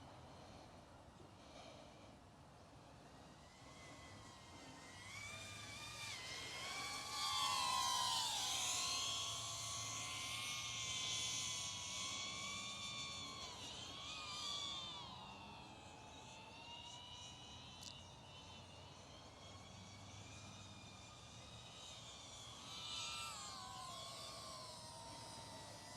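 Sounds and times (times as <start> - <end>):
quadcopter propellers whining: 1.4 - 25.9.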